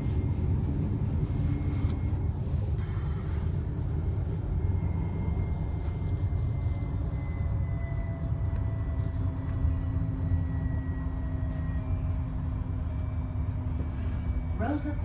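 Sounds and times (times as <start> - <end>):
faint whines: 0.0 - 15.0
light-rail train rumble: 0.0 - 15.0.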